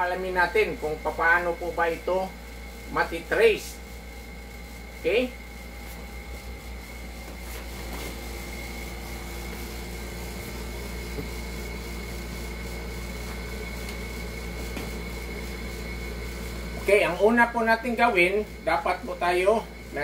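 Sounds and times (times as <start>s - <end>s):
room hum and hiss: 0.0s - 20.0s.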